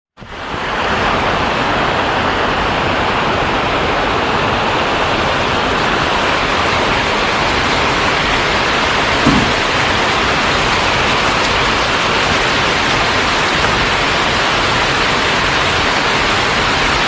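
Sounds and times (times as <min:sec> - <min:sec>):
heavy rain pouring: 0:00.2 - 0:17.0.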